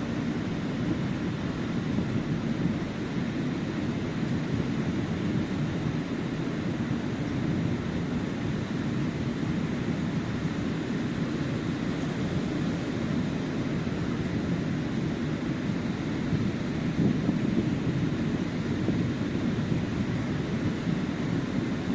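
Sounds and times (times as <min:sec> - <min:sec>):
ocean surf on sand: 0:00.0 - 0:21.9
wind rumble on microphone: 0:00.0 - 0:21.9.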